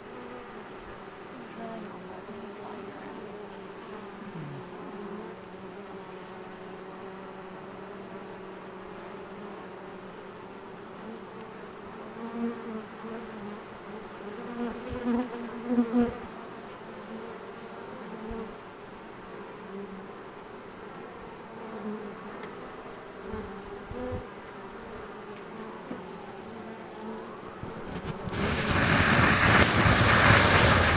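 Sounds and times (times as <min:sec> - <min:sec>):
bees buzzing: 0:00.0 - 0:30.9.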